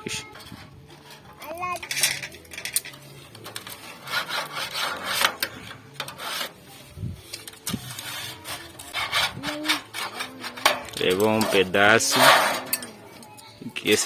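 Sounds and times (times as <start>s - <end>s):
plastic scraping on sheet metal: 0.2s - 13.3s.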